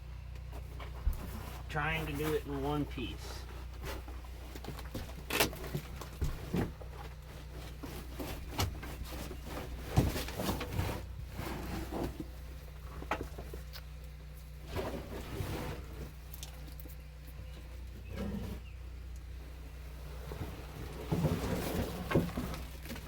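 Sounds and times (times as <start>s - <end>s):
steady low hum: 0.0s - 23.0s
carpet rustling and scraping: 0.4s - 23.0s.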